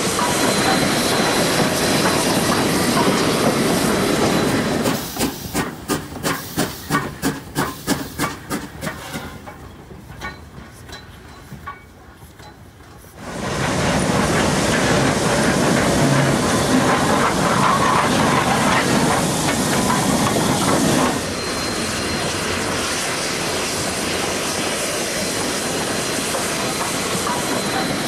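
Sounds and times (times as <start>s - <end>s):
steam hissing: 0.0s - 9.5s, 13.2s - 28.0s
steam locomotive rhythmic beats: 0.0s - 28.0s.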